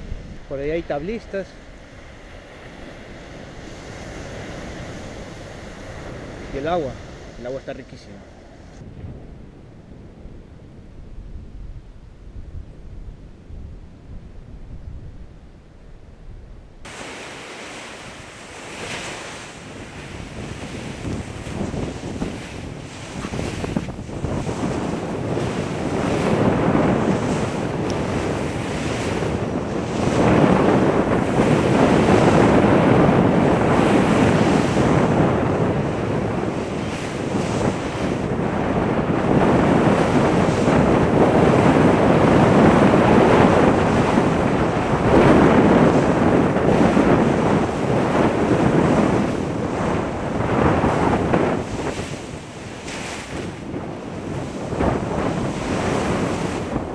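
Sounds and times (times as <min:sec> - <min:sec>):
ocean surf breaking on sand: 0:00.0 - 0:10.6, 0:16.8 - 0:56.9
wind buffeting microphone: 0:00.0 - 0:56.9.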